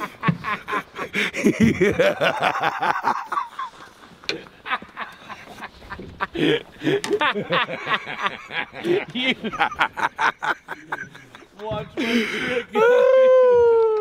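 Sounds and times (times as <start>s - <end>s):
men laughing: 0.0s - 13.7s.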